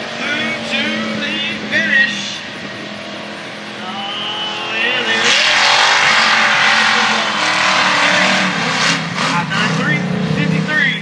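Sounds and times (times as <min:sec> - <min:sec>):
tires spinning in loose dirt: 0:00.0 - 0:11.0
truck engine revving: 0:00.0 - 0:11.0.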